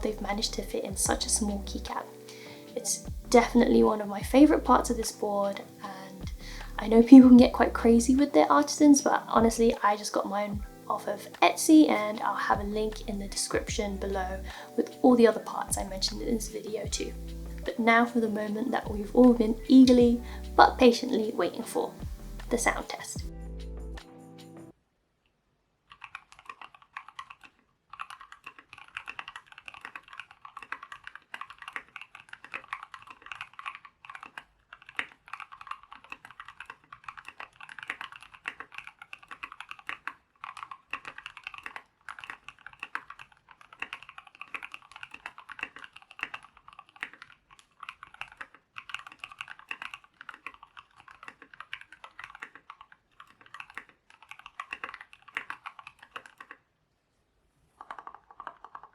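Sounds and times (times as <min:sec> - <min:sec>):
mechanical keyboard typing: 0:00.0 - 0:23.2, 0:25.9 - 0:56.6, 0:57.8 - 0:58.9.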